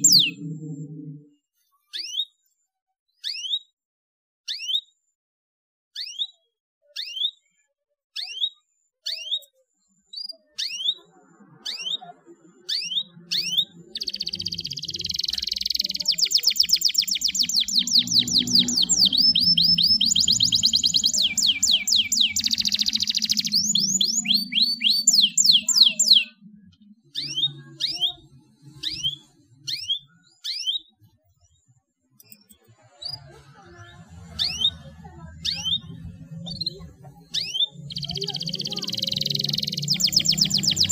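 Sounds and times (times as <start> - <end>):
canary chirping and trilling: 0.0 - 2.5, 3.1 - 3.8, 4.5 - 5.0, 5.9 - 31.6, 32.2 - 40.9.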